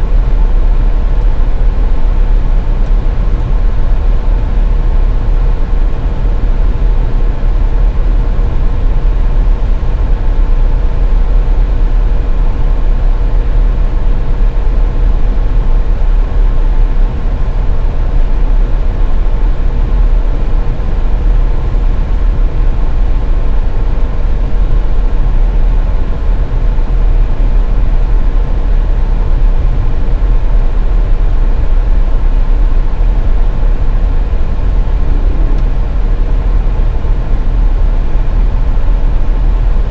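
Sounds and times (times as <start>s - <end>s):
engine and tyre rumble: 0.0s - 39.9s
faint steady whine: 0.0s - 39.9s.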